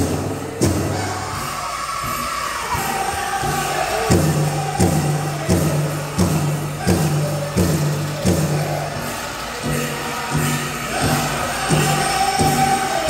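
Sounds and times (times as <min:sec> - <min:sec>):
big drum booming beat: 0:00.0 - 0:13.0
men singing: 0:00.8 - 0:13.0.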